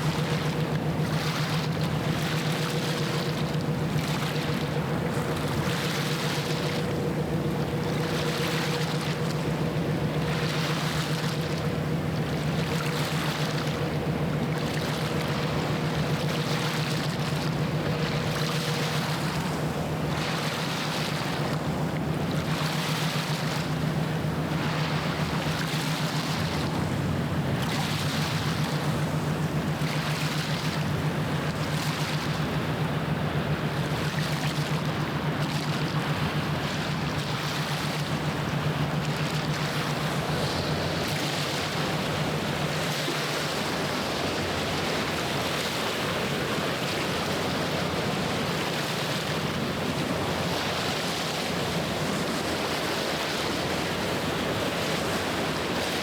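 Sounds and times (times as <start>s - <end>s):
ship engine hum: 0.0s - 56.0s
waves washing on shore: 0.0s - 56.0s.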